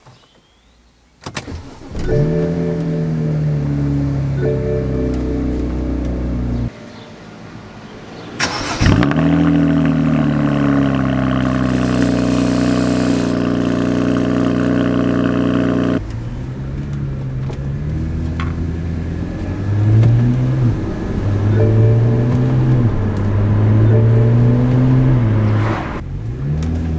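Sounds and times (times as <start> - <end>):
car engine starting: 1.2 - 26.9
engine revving: 1.4 - 6.7, 8.4 - 26.9
car engine idling: 1.4 - 26.9.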